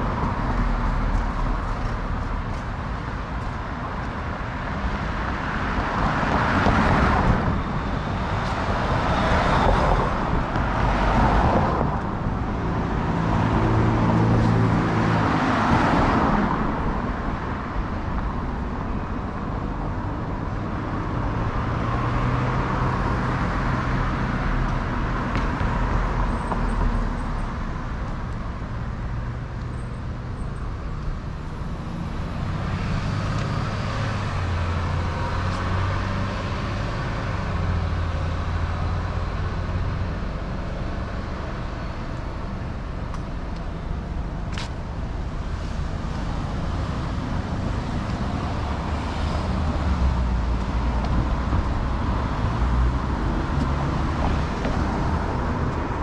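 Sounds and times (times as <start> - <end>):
traffic rumbling: 0.0 - 56.0.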